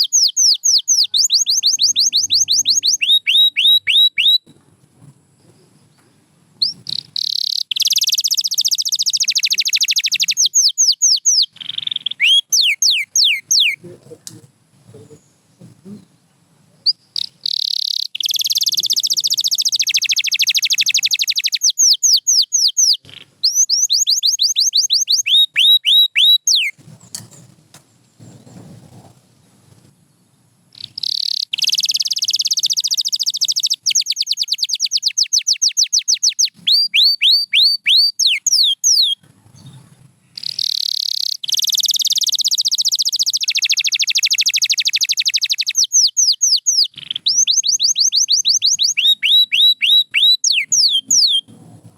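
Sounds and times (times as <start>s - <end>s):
canary singing trills: 0.0s - 4.5s, 5.5s - 14.2s, 14.9s - 26.9s, 29.8s - 51.6s.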